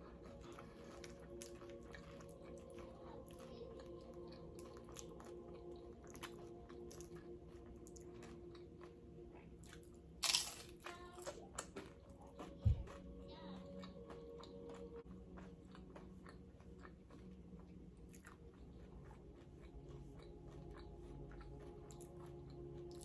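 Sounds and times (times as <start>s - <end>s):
chewing and crunching chips: 0.0s - 23.0s
faint steady hum: 0.0s - 23.0s.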